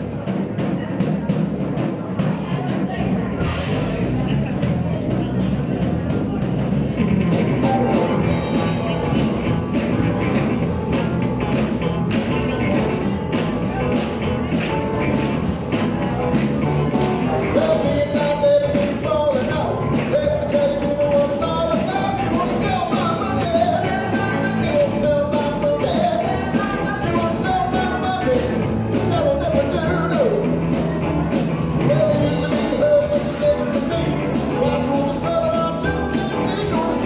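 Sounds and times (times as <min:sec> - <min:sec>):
drum-kit beat: 0:00.0 - 0:37.0
live rock band playing: 0:00.0 - 0:37.0
electric guitars: 0:05.9 - 0:37.0.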